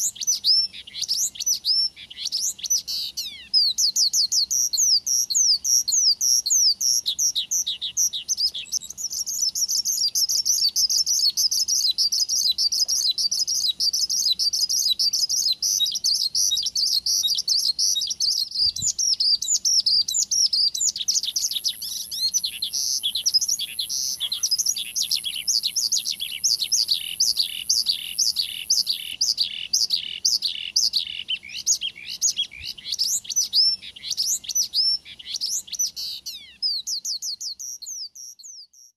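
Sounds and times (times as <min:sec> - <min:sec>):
bush lark singing: 0:00.0 - 0:38.9
very high bird trill: 0:00.0 - 0:38.9.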